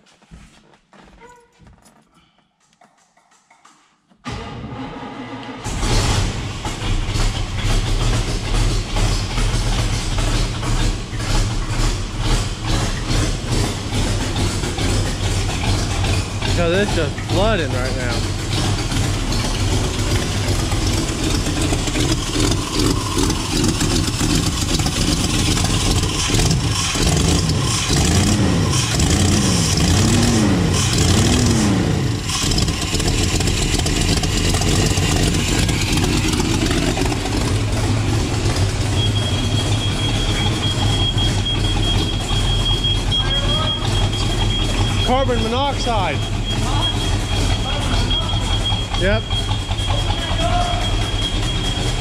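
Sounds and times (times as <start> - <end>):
car engine running rough: 4.3 - 52.0.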